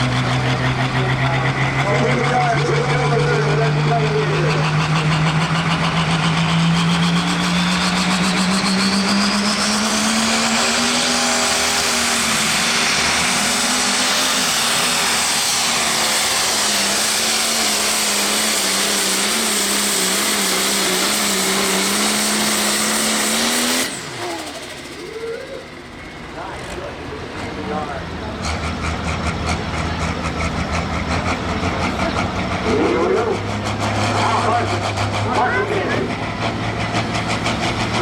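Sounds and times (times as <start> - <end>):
diesel engine at high revs: 0.0 - 38.0.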